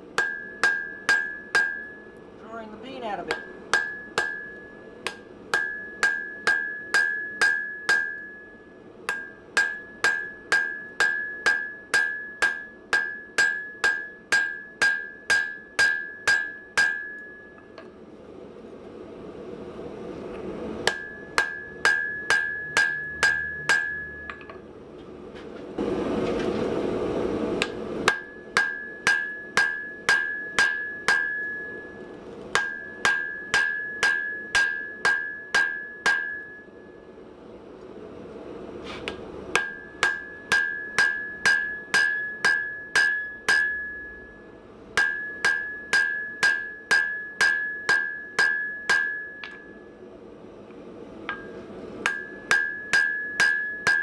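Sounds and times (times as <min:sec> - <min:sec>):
hammer striking steel on anvil: 0:00.0 - 0:02.3, 0:02.9 - 0:18.0, 0:20.8 - 0:24.6, 0:27.6 - 0:37.2, 0:38.9 - 0:50.0, 0:51.2 - 0:54.0.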